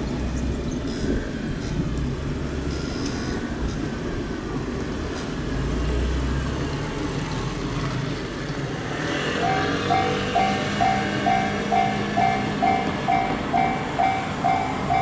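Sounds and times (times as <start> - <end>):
vehicles driving past: 0.0 - 15.0.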